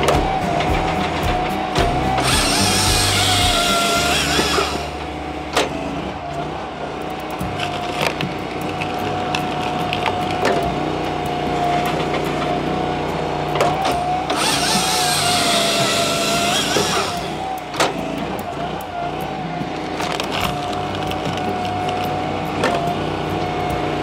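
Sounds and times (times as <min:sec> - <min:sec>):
chainsaw cutting log: 0:00.0 - 0:24.0
firewood processor whine: 0:00.0 - 0:24.0
wood splitting cracks: 0:00.0 - 0:24.0.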